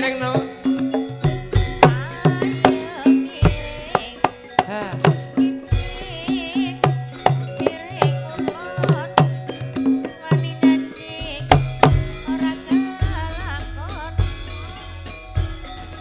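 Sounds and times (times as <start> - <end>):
hand drum strokes: 0.0 - 14.5
wavering high melody: 0.0 - 16.0.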